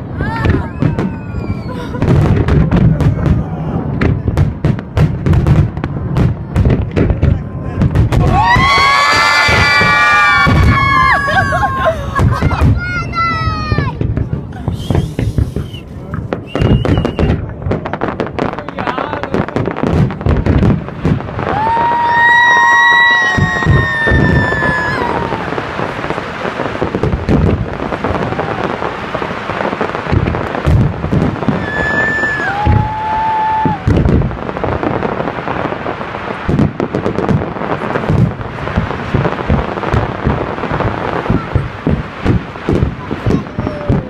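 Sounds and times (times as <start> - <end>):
fireworks booming and crackling: 0.0 - 44.0.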